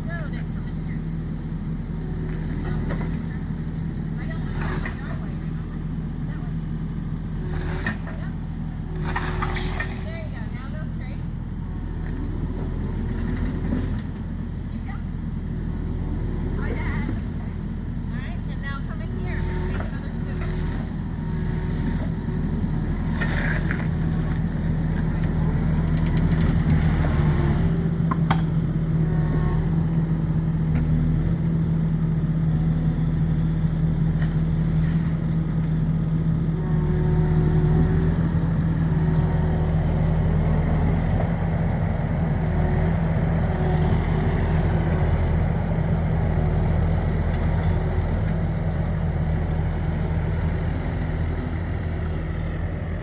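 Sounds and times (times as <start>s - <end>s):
loader engine running: 0.0s - 53.0s.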